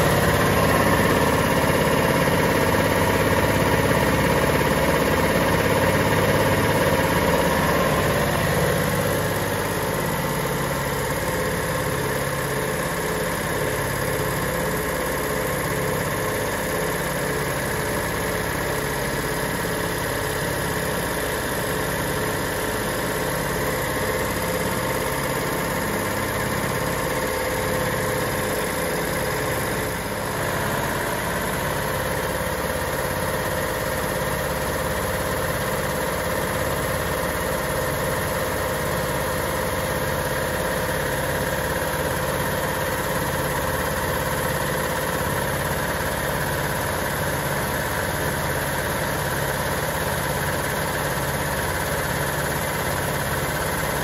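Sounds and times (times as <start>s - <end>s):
air compressor chugging: 0.0s - 54.0s.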